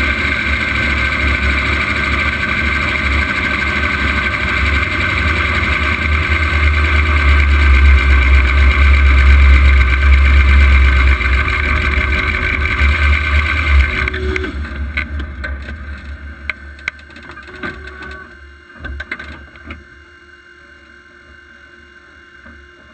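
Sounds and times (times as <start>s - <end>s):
race car engine running: 0.0s - 19.6s.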